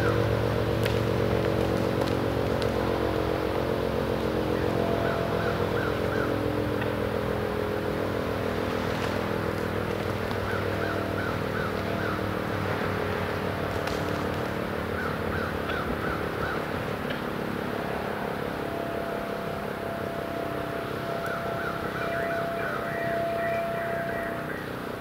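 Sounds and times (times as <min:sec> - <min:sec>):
birds chirping: 0:00.0 - 0:25.0
higher steady siren tone: 0:00.0 - 0:25.0
rotating warning siren: 0:00.0 - 0:25.0.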